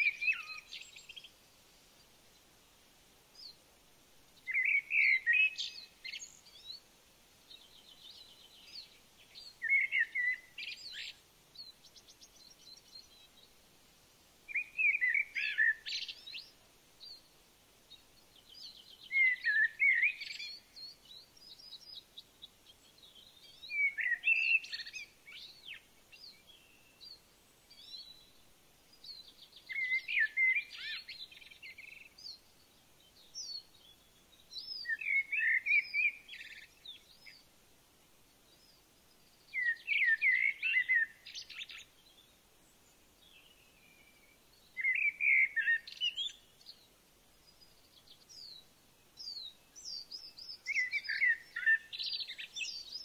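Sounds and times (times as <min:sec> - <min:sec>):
songbird trilling and warbling: 0:00.0 - 0:01.4, 0:04.4 - 0:06.8, 0:07.5 - 0:13.5, 0:14.5 - 0:17.3, 0:17.9 - 0:28.3, 0:29.0 - 0:32.4, 0:33.1 - 0:37.4, 0:38.6 - 0:46.8, 0:49.2 - 0:53.0.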